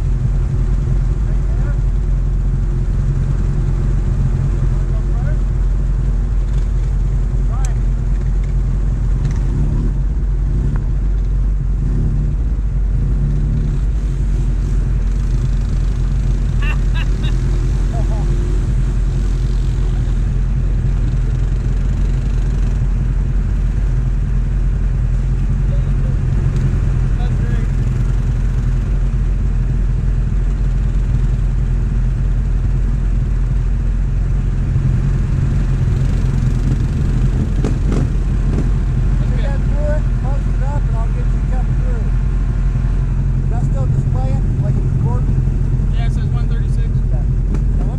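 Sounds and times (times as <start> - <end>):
atv engines rumbling: 0.0 - 47.9.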